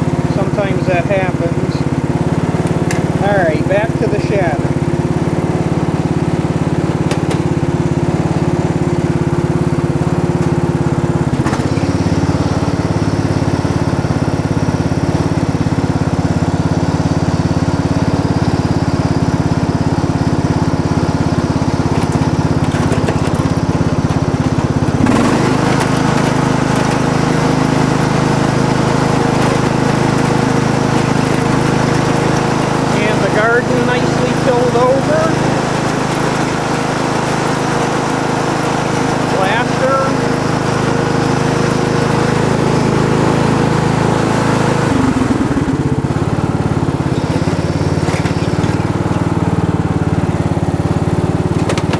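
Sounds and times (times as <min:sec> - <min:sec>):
lawn tractor engine running: 0:00.0 - 0:51.9.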